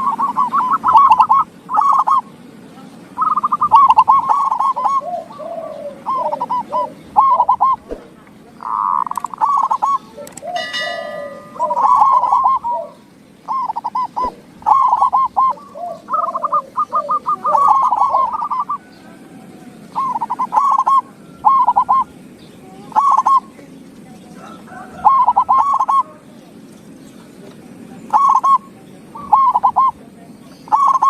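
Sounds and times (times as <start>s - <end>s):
lower dove voice cooing: 0.0s - 2.4s, 3.1s - 26.5s, 28.1s - 31.0s
doves cooing: 0.0s - 31.0s.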